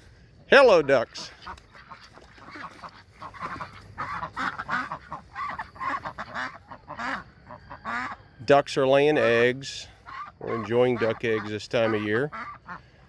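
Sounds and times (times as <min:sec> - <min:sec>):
ducks quacking: 0:00.5 - 0:13.0.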